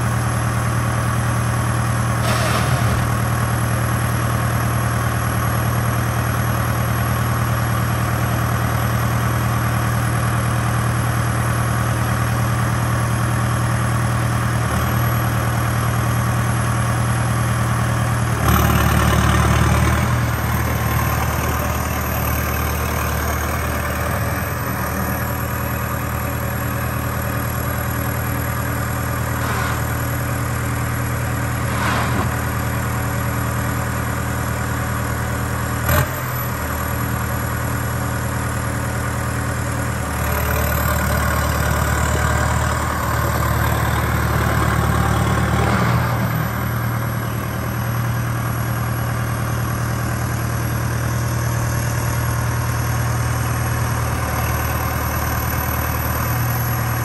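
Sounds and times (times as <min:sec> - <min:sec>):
tractor diesel engine idling: 0:00.0 - 0:57.0.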